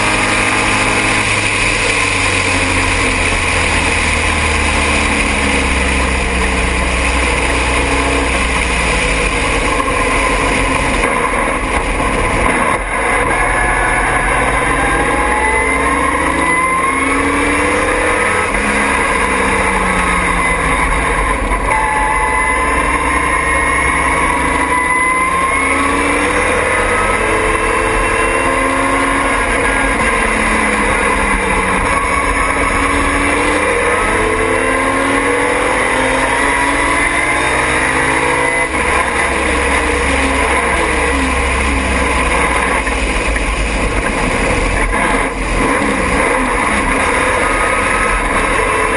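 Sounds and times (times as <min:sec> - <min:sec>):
race car engine revving: 0:00.0 - 0:48.9
wind and road noise: 0:00.0 - 0:48.9.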